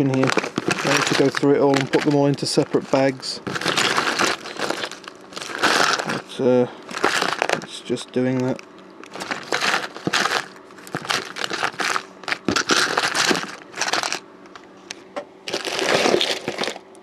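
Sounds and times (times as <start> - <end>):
plastic bags crinkling: 0.0 - 14.2, 15.5 - 16.9.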